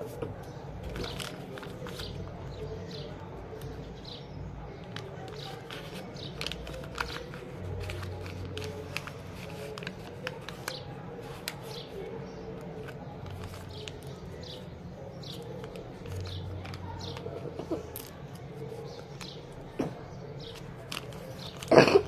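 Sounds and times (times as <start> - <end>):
paper crinkling and rustling: 0.0 - 22.0.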